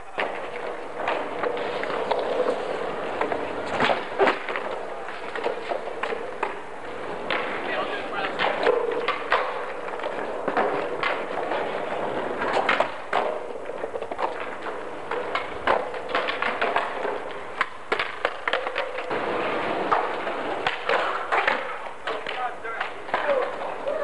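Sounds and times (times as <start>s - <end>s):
skateboard wheels rolling: 0.0s - 24.0s
skateboards clacking on concrete: 0.0s - 24.0s
steady background noise: 0.0s - 24.0s.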